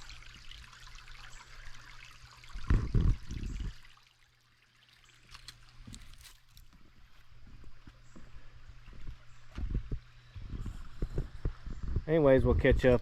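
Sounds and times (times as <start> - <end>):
creek trickling: 0.0 - 12.4.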